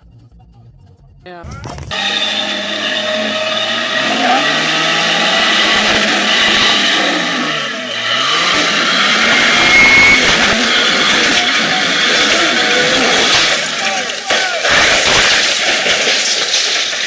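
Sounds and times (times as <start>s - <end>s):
engine revving hard: 1.9s - 17.0s
loud rushing noise: 1.9s - 17.0s.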